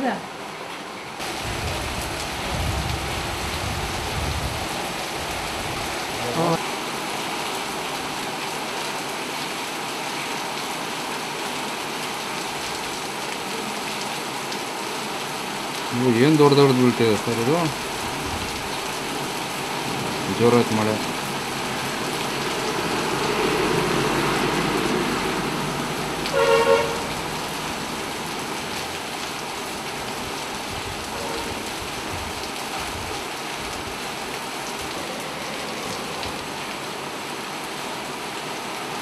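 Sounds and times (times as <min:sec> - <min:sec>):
heavy rain and hail: 0:01.2 - 0:39.0.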